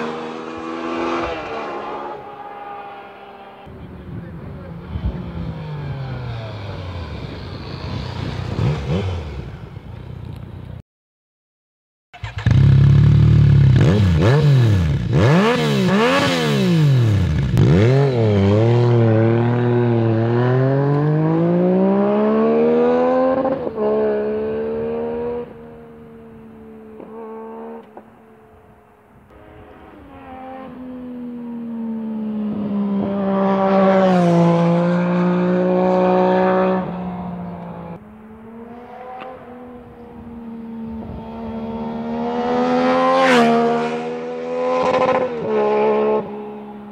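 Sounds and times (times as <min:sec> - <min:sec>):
motorcycle engine revving: 0:00.0 - 0:10.5, 0:12.2 - 0:28.6, 0:29.3 - 0:46.9.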